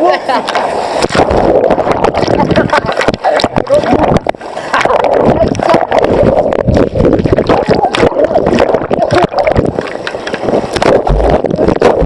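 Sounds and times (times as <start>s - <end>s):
rushing bubbling whitewater: 0.0s - 12.0s
low thumps: 1.0s - 12.0s.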